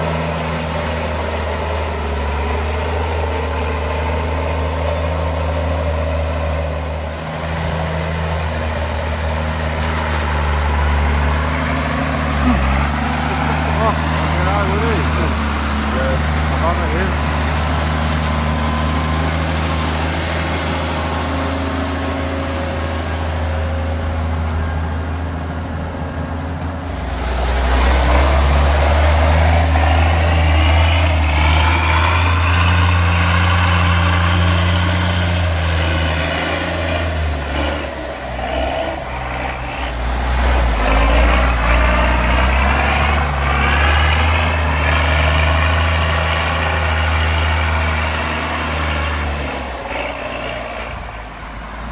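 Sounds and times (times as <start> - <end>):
tractor diesel engine working hard: 0.0 - 51.9.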